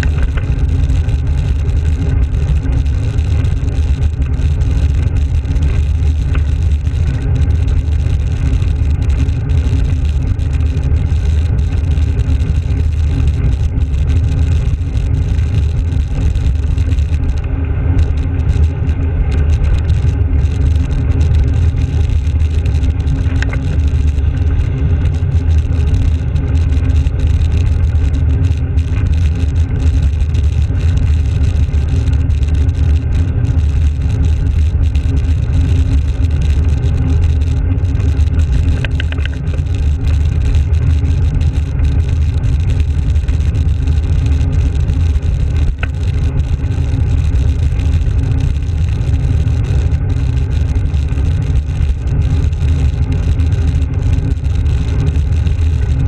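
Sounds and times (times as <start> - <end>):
bicycle road noise: 0.0 - 56.0.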